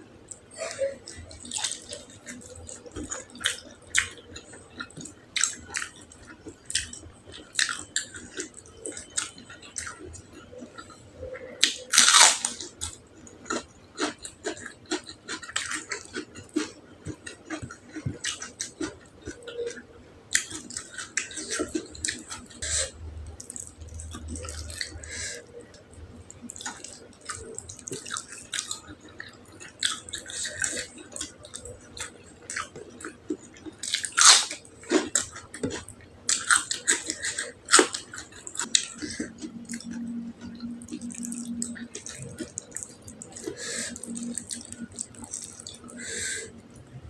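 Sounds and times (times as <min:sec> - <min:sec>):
person chewing food: 0:00.3 - 0:47.0.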